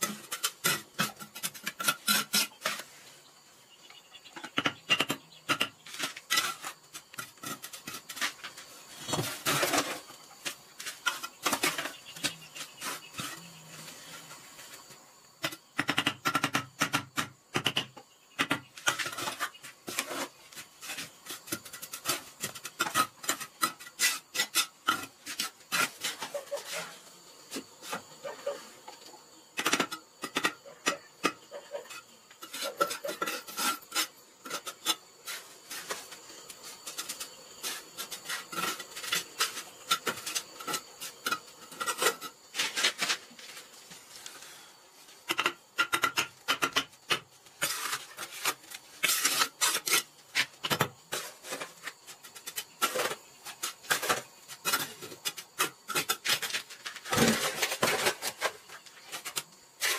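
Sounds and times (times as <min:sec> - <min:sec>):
bricks scraping on mortar: 0:00.0 - 0:03.0, 0:04.5 - 0:15.6, 0:18.4 - 0:28.5, 0:29.6 - 0:44.7, 0:45.3 - 0:59.9.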